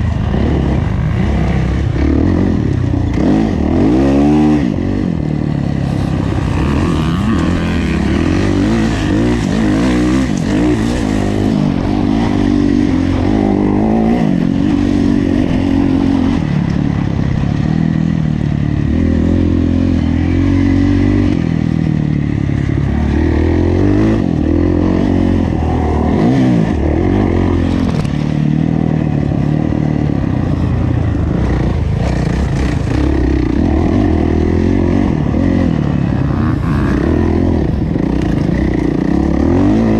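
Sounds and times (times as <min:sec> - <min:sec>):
motocross engine revving: 0:00.0 - 0:16.5, 0:22.8 - 0:28.8, 0:29.6 - 0:39.9.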